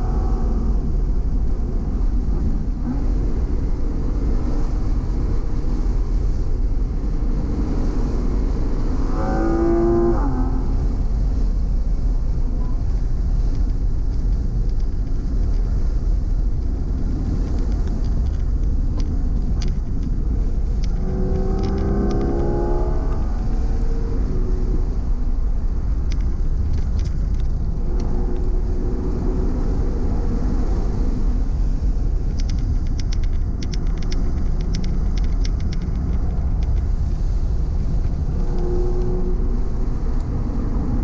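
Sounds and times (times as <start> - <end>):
race car engine rumble from cabin: 0.0 - 41.0.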